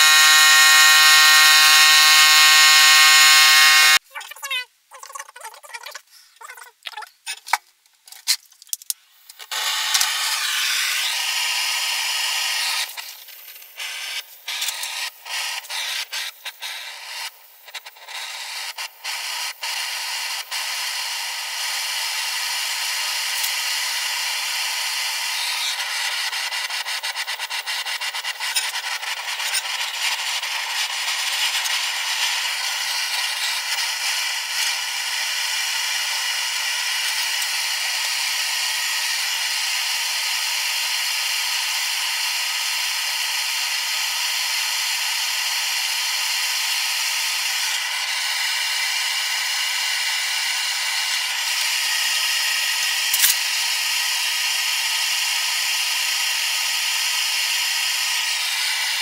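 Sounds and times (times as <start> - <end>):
grinder grinding steel: 0.0 - 4.0, 9.4 - 59.0.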